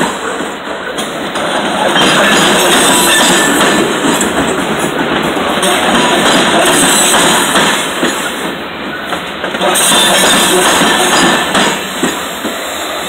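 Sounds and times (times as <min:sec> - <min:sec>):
train wheels clanking over rail joints: 0:00.0 - 0:12.7
freight train rolling past: 0:00.0 - 0:13.0.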